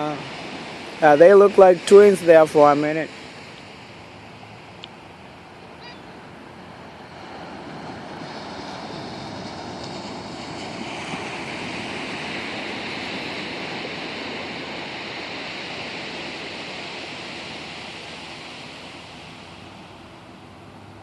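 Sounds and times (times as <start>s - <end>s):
ocean surf washing on beach: 0.0s - 21.0s.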